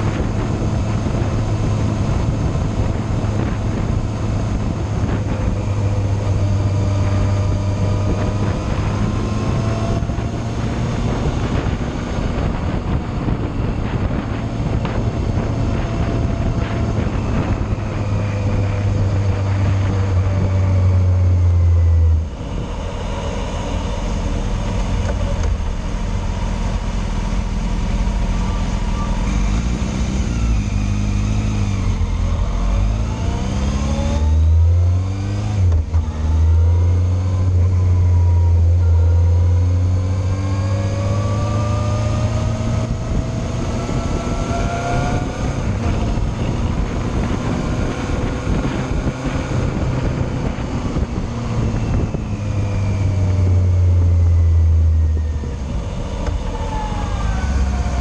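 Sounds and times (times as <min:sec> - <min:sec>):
motorcycle engine: 0:00.0 - 0:58.0
wind noise on microphone: 0:00.0 - 0:58.0.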